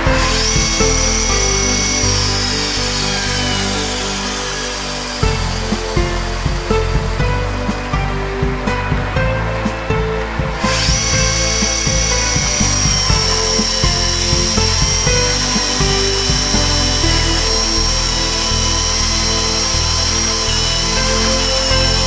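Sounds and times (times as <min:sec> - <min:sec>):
chainsaw mill whining: 0:00.0 - 0:07.8, 0:10.6 - 0:22.0
background music: 0:00.0 - 0:22.0.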